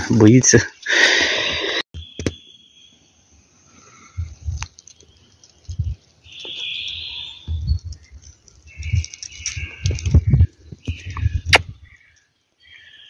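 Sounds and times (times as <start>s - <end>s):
songbird calling: 2.0s - 13.0s.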